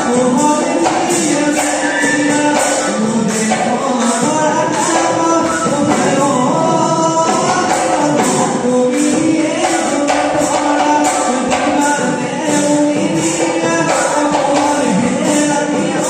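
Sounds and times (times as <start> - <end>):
dhol drum beat: 0.0 - 16.0
person singing: 0.0 - 16.0.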